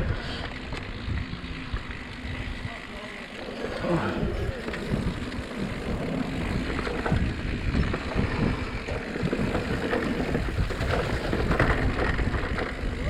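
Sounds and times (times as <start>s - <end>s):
bike rattles and knocks: 0.0s - 13.0s
bike tyres rumbling on dirt: 0.0s - 13.0s.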